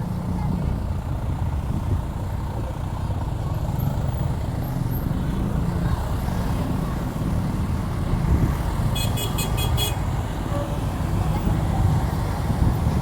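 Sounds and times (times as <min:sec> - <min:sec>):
heavy vehicle engine rumble: 0:00.0 - 0:13.0
traffic: 0:00.0 - 0:13.0.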